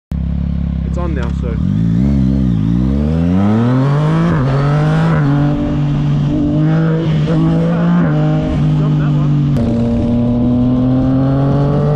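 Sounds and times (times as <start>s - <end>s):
motorcycle engine revving: 0.1s - 11.9s.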